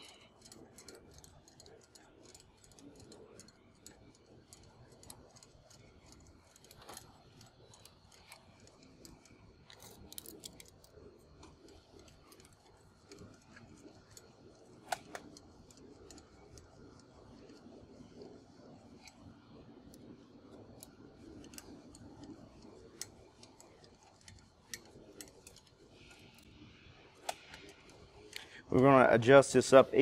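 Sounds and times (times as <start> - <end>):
faint metallic clicks and ticks: 0.0 - 30.0.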